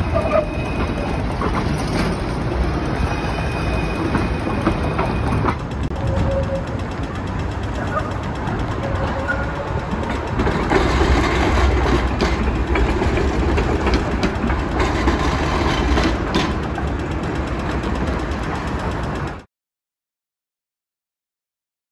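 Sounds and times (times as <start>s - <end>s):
tram rumbling along track: 0.0s - 19.5s
wheels clicking over track junctions: 0.0s - 19.5s.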